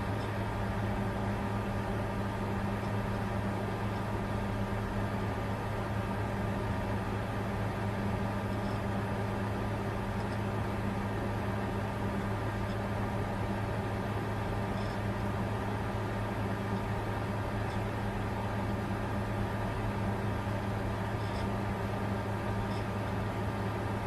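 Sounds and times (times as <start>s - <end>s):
computer low hum: 0.0s - 24.0s.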